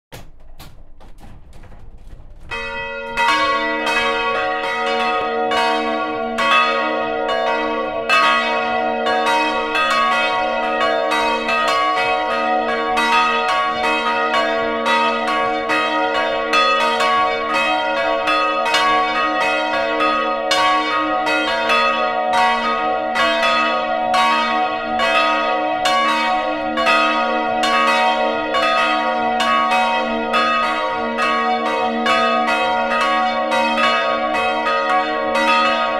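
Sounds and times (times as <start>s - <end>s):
church bells pealing: 2.4s - 35.9s.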